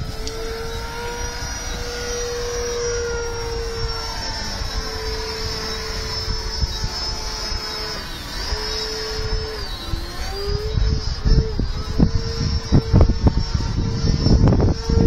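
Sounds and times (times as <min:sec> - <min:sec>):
drone propellers humming: 0:00.0 - 0:15.0
wind rumble on microphone: 0:00.0 - 0:15.0.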